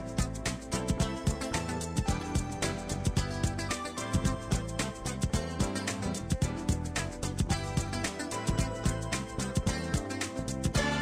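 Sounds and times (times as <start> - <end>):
music with driving beat: 0.0 - 11.0.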